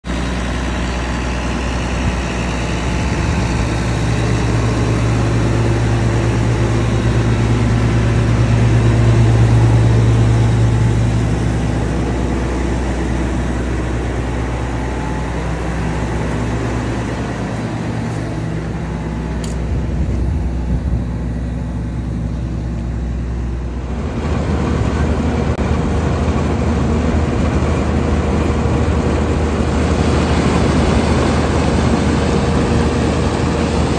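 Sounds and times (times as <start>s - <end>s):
combine harvester working: 0.0s - 33.9s
diesel engine running: 0.0s - 33.9s.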